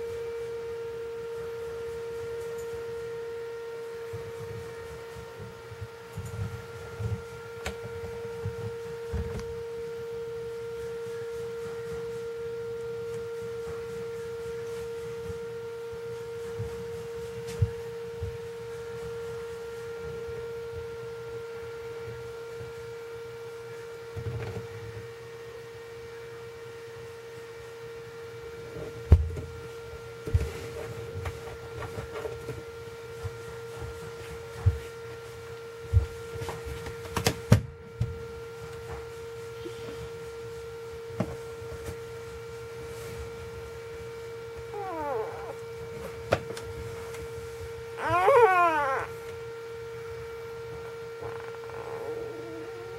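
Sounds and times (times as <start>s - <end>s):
steady electrical hum: 0.0s - 52.9s.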